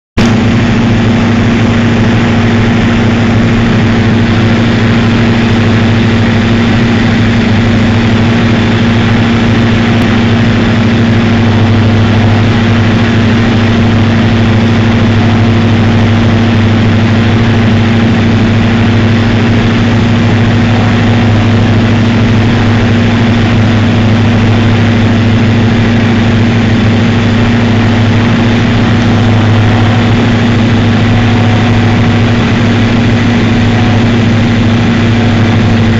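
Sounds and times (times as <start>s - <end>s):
airplane engine hum in cabin: 0.2s - 35.9s.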